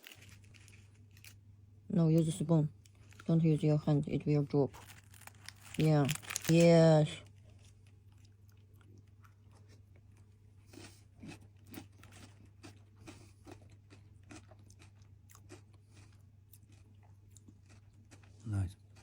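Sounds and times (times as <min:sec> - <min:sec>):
person chewing crunchy snack: 0:00.0 - 0:01.4, 0:02.8 - 0:03.3, 0:04.7 - 0:06.7, 0:07.4 - 0:19.0.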